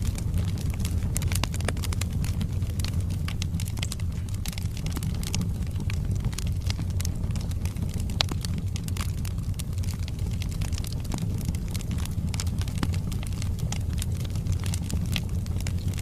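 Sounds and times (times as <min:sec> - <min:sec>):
logs crackling and popping: 0:00.0 - 0:16.0
wood fire burning: 0:00.0 - 0:16.0.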